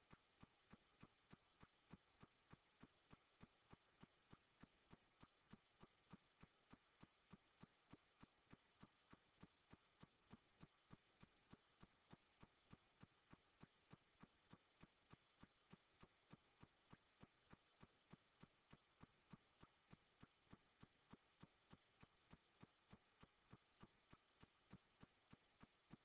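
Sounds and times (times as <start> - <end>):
faint regular ticking: 0.0 - 26.0
low hiss: 0.0 - 26.0.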